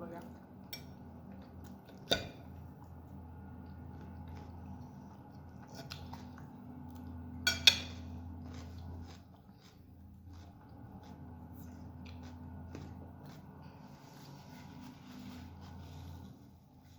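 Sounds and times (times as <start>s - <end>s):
low steady hum: 0.0s - 16.9s
person chewing noodles: 0.9s - 14.8s.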